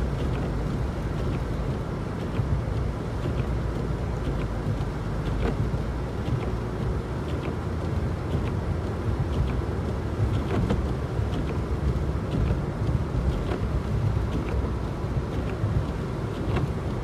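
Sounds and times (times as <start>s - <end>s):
car driving on slushy road: 0.0s - 17.0s
faint ticks: 0.1s - 17.0s.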